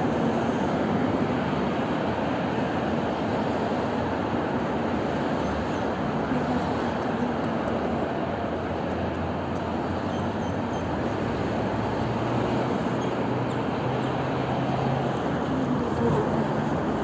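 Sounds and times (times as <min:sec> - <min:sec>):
low engine hum: 0:00.0 - 0:17.0
traffic rush: 0:00.0 - 0:17.0.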